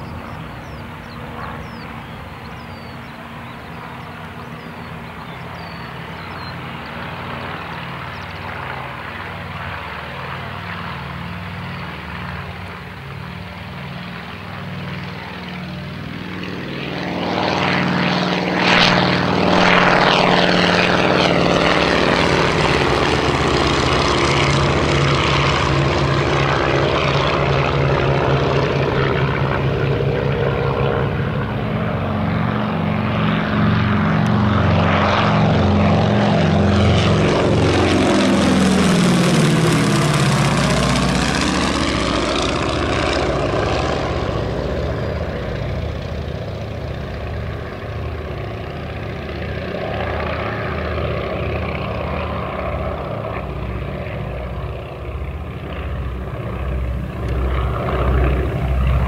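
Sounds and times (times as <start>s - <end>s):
aircraft radial engines flying past: 0.0s - 59.0s.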